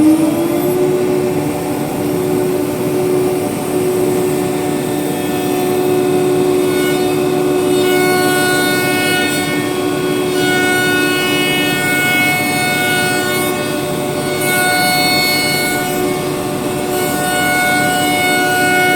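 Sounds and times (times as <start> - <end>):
router spindle whining: 0.0 - 18.9.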